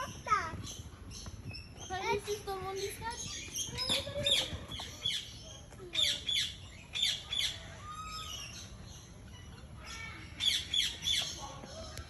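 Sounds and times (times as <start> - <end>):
birds squawking: 0.0 - 11.9.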